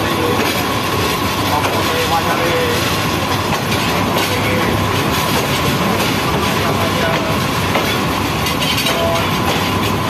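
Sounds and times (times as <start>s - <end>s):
train wheels clacking on rails: 0.0s - 10.0s.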